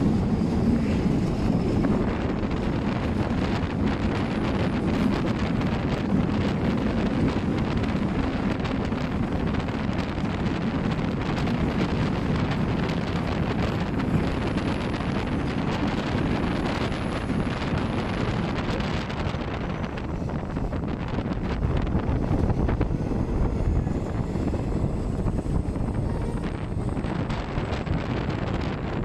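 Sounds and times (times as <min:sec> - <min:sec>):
train running over steel bridge: 0:00.0 - 0:29.0
wind rushing over microphone: 0:00.0 - 0:29.0.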